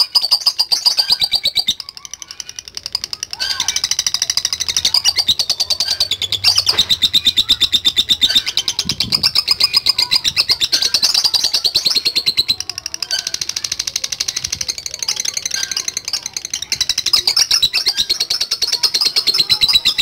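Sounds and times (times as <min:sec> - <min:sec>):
bird singing rapid chattering trill: 0:00.0 - 0:20.0.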